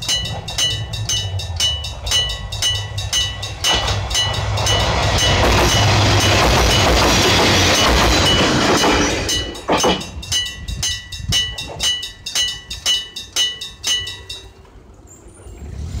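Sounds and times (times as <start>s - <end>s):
level crossing bell ringing: 0.0s - 14.7s
diesel railcar rumbling: 0.0s - 16.0s.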